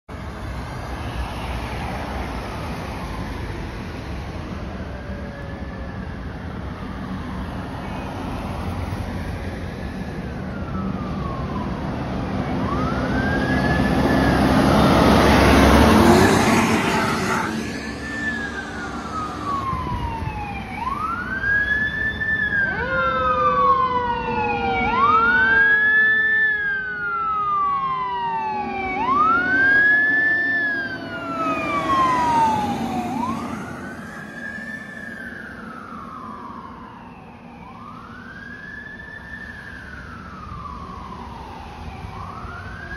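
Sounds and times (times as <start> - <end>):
fire truck sirens wailing: 0.1 - 42.9.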